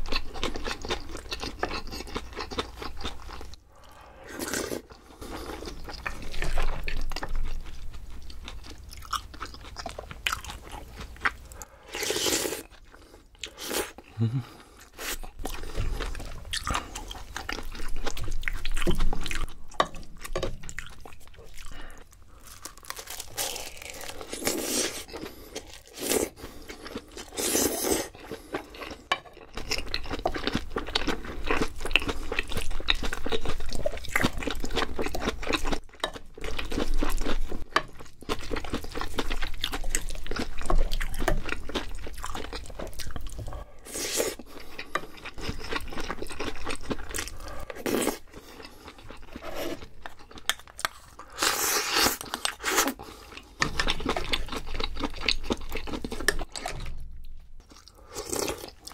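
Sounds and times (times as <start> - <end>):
person chewing and crunching food: 0.0 - 58.9.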